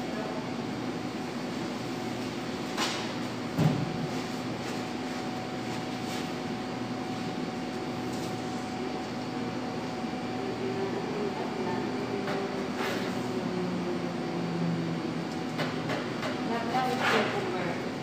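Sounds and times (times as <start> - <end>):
kitchen ventilation hum: 0.0 - 18.0.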